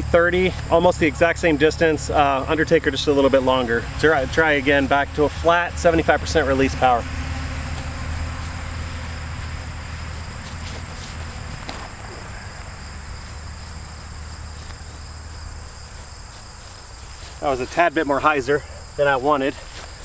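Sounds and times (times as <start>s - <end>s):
low steady rumble: 0.0s - 18.7s
crickets chirping: 0.0s - 20.0s.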